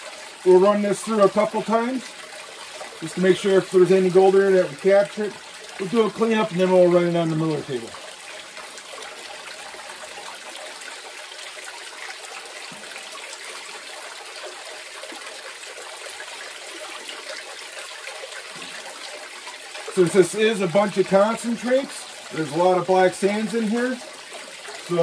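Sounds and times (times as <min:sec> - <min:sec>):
water running down a sluice: 0:00.0 - 0:25.0
water trickling into a bucket: 0:00.0 - 0:25.0.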